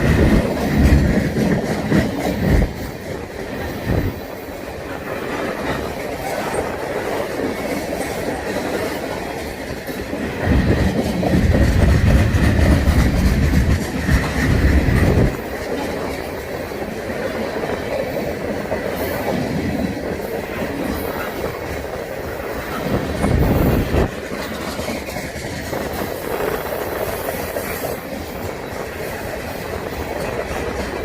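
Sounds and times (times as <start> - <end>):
freight train cars rolling: 0.0 - 31.0
steel wheels clacking over rail joints: 0.0 - 31.0.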